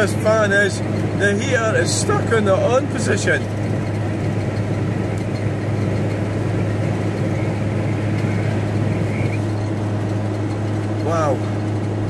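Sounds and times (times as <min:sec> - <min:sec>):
van engine and road noise: 0:00.0 - 0:12.0.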